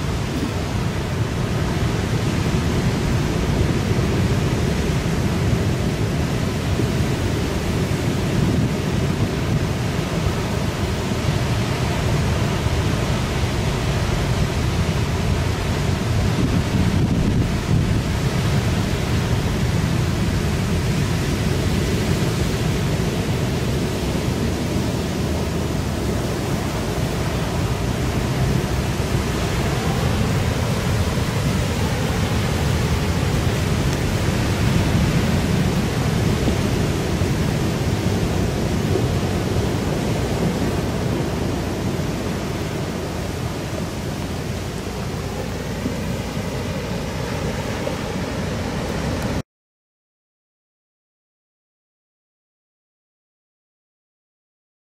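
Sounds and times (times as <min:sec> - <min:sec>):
heavy surf: 0:00.0 - 0:49.4
strong wind buffeting microphone: 0:00.0 - 0:49.4.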